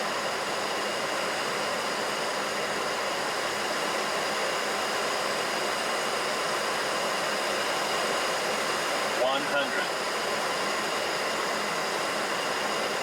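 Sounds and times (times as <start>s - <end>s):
airflow hiss around cockpit: 0.0s - 13.0s
jet engines humming: 0.0s - 13.0s.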